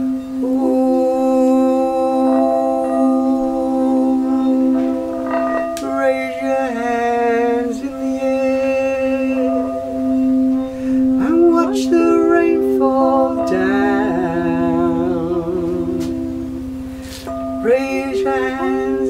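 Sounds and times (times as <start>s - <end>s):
low drone: 0.0s - 19.0s
wordless singing: 0.0s - 19.0s.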